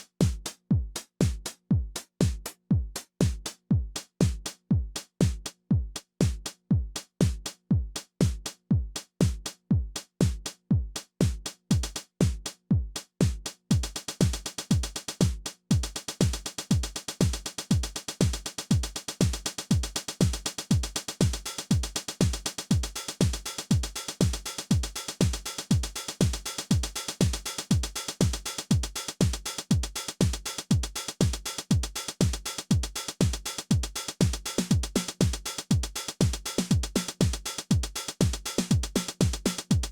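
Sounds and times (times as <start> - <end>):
drum machine bass drum: 0.0 - 39.9
hi-hats and cymbals: 0.0 - 39.9.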